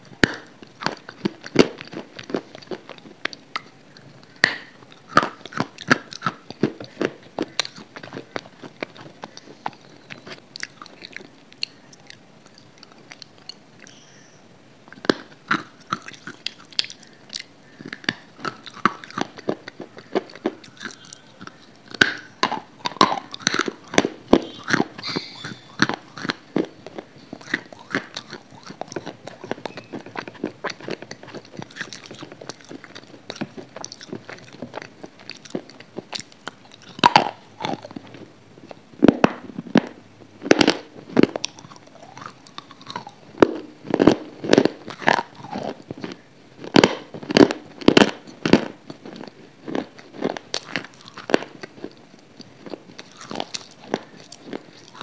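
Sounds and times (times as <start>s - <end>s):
person crunching something hard: 0.0s - 14.0s, 14.9s - 55.0s
wet chewing: 0.0s - 14.1s, 14.8s - 55.0s.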